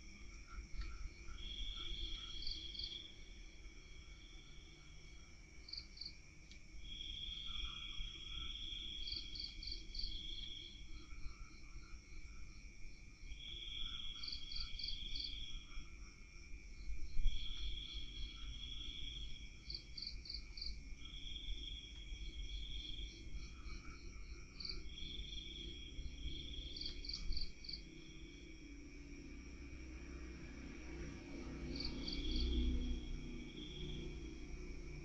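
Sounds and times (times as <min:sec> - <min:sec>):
faint low rumble: 0:00.0 - 0:35.0
insects trilling: 0:00.0 - 0:35.0
quick cricket chirps: 0:00.0 - 0:35.0.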